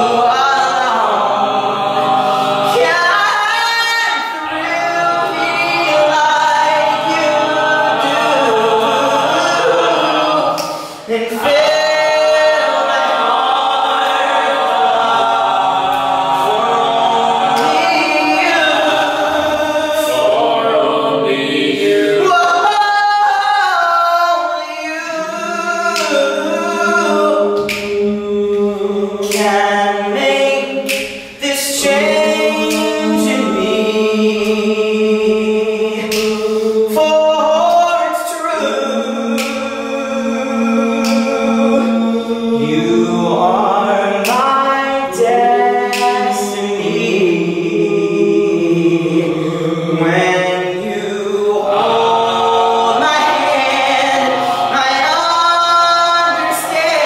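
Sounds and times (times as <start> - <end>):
men singing in harmony: 0.0 - 57.0.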